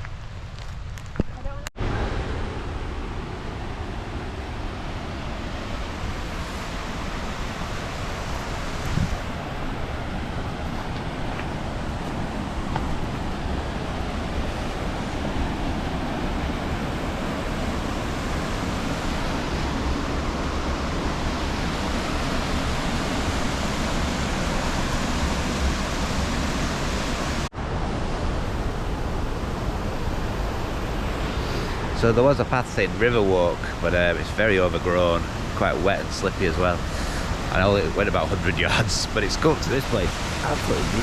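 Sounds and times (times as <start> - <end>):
waterfall rushing: 1.8 - 27.5, 28.4 - 41.0.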